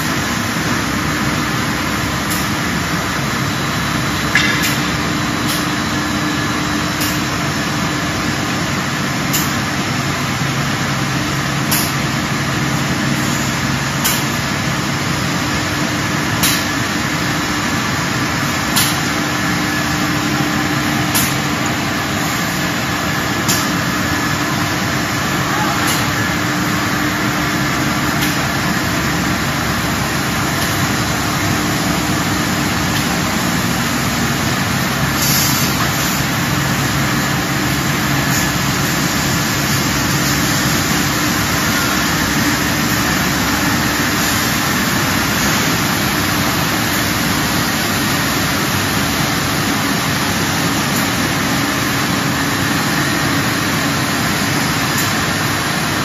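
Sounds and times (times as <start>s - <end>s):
coating machinery whirring hiss: 0.0s - 56.0s.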